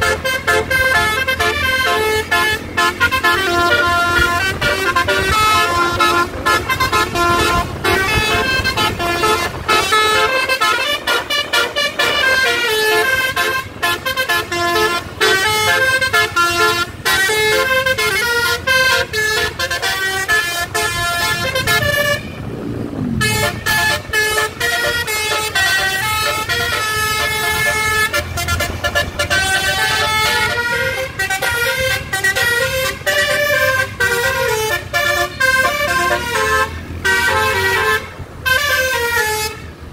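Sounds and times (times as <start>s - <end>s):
bus air horn playing melody: 0.0s - 22.5s, 23.2s - 39.9s.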